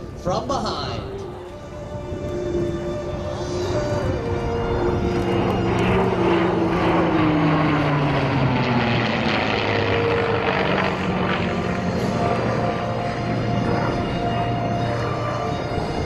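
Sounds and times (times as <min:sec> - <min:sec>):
jet noise: 0:00.0 - 0:16.0
propeller engine drone: 0:00.0 - 0:16.0.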